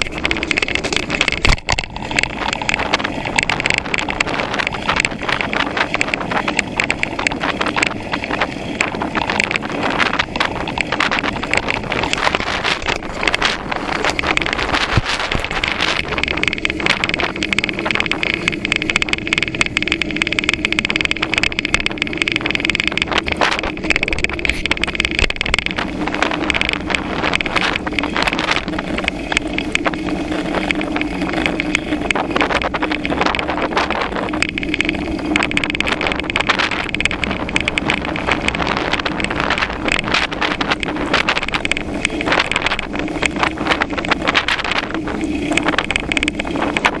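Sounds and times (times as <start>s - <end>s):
bicycle rattling on pavement: 0.0s - 47.0s
steady rushing noise: 0.0s - 47.0s
wind buffeting microphone: 0.0s - 47.0s.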